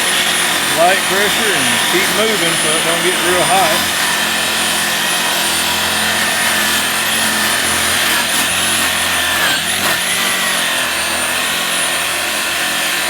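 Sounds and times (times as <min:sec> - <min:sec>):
electric polisher whining: 0:00.0 - 0:13.0.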